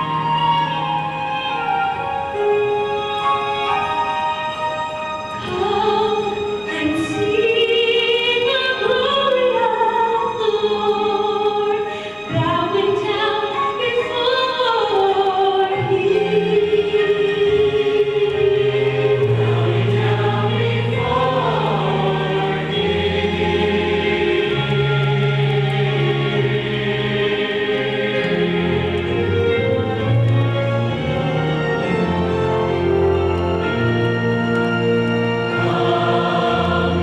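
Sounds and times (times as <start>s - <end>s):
choir singing with accompaniment: 0.0s - 37.0s.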